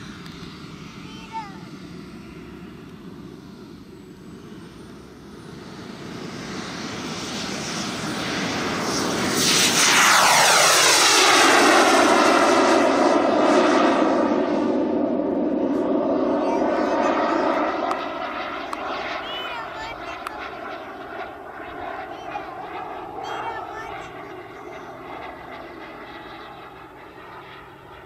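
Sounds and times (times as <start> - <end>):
model jet turbine whine: 0.0 - 28.0.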